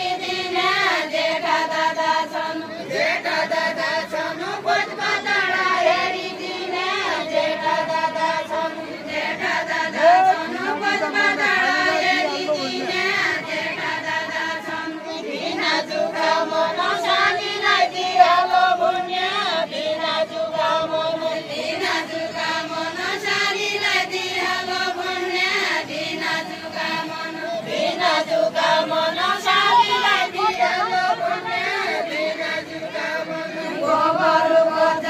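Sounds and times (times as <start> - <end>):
group singing in unison: 0.0 - 35.0.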